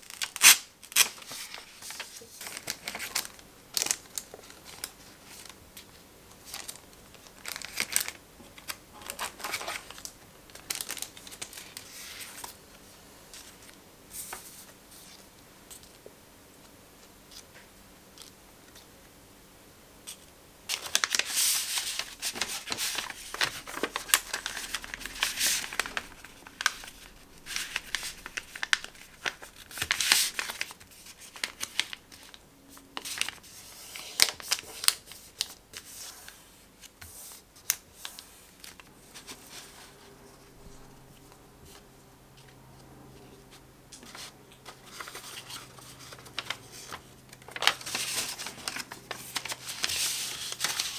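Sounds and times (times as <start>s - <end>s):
paper rustling and crinkling: 0.0s - 15.9s, 20.7s - 41.8s, 43.2s - 50.9s.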